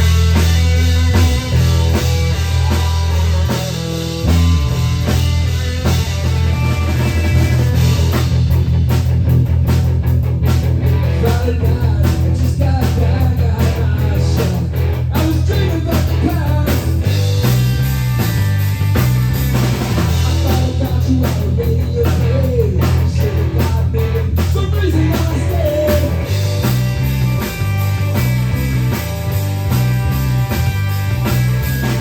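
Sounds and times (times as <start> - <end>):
rock song with drums and guitar: 0.0 - 32.0.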